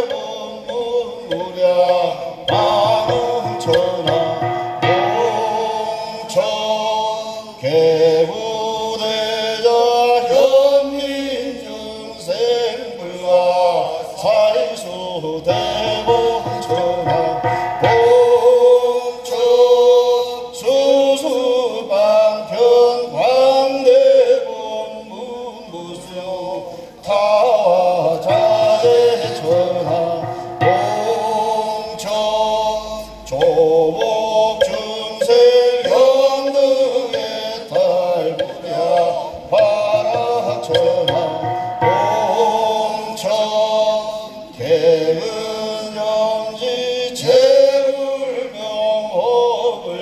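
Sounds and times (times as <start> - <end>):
ritual chant in held notes: 0.0 - 50.0.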